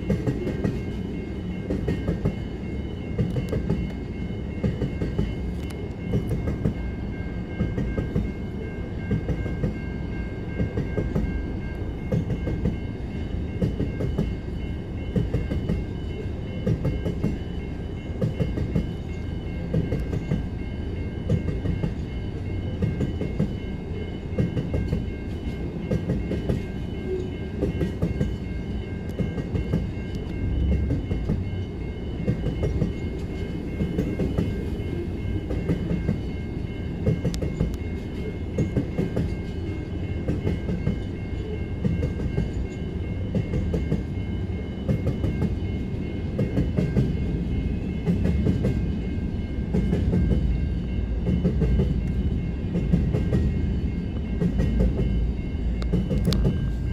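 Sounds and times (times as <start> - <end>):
crossing warning bell: 0.0 - 56.9
train wagons rumbling: 0.0 - 56.9.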